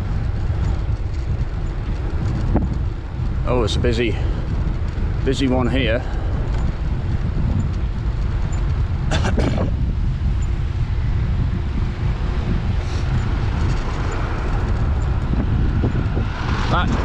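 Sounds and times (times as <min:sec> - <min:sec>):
traffic passing on busy road: 0:00.0 - 0:17.0
wind rumble on microphone: 0:00.0 - 0:17.0.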